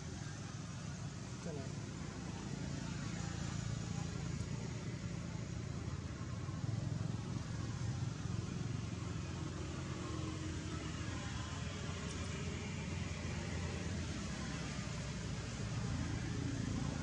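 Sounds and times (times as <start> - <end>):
low engine-like rumble: 0.0 - 17.0.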